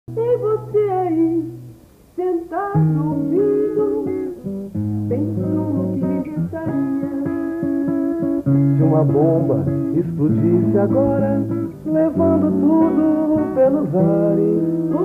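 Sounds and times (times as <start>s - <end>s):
person singing: 0.1s - 4.5s, 5.1s - 15.0s
plucked acoustic guitar: 2.7s - 15.0s.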